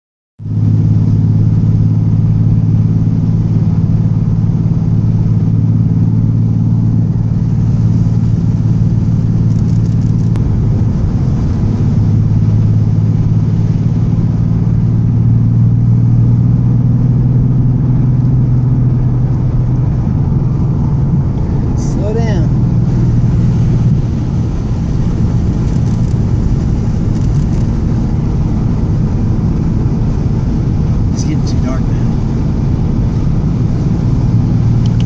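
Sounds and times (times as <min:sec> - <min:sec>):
car engine drone: 0:00.4 - 0:35.0
road noise: 0:00.4 - 0:35.0.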